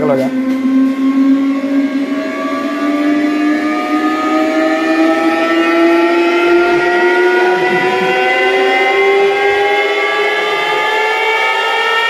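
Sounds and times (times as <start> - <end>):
rising pitched tone from speakers: 0.0 - 12.0.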